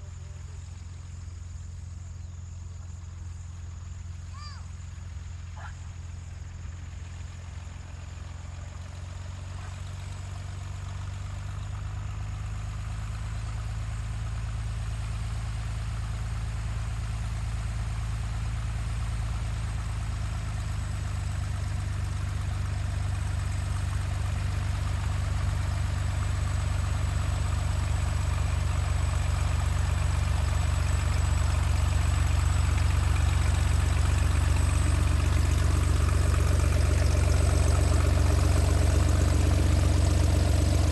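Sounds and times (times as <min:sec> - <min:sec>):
engine running at low speed: 0:00.0 - 0:40.9.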